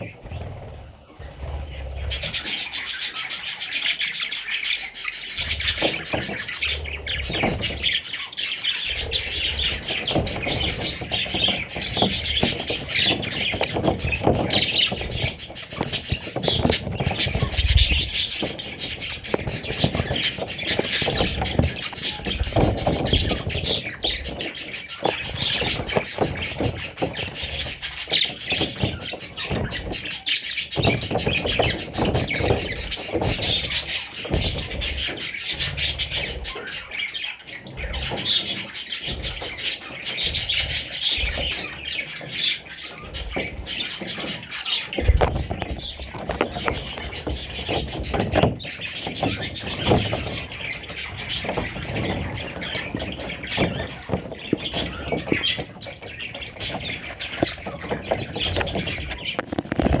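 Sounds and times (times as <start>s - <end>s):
budgerigars chirping: 1.0s - 59.9s
small clicks and scratches: 5.0s - 37.0s, 37.8s - 60.0s.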